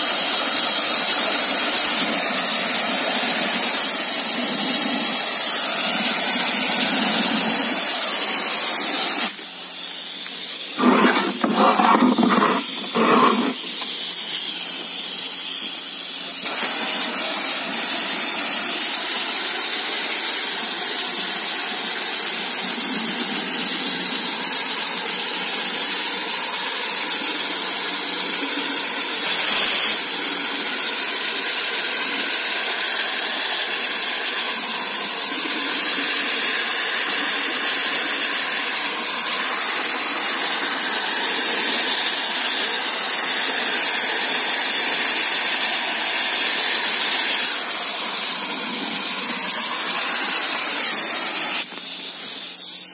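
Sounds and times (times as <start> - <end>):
sandblasting gun hissing: 0.0 - 52.9.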